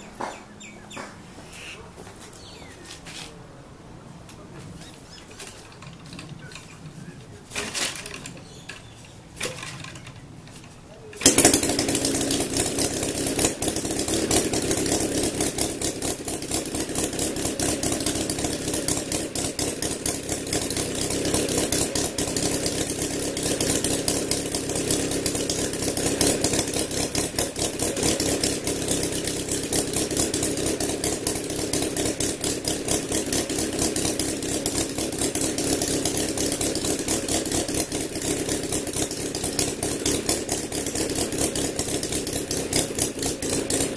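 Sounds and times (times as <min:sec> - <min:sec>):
model aircraft engine revving: 0:05.4 - 0:43.9.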